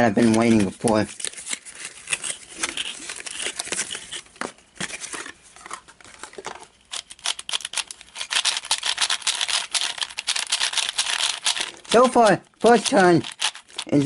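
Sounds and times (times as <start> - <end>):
plastic packaging crinkling and tearing: 0.0 - 4.3, 4.9 - 14.0.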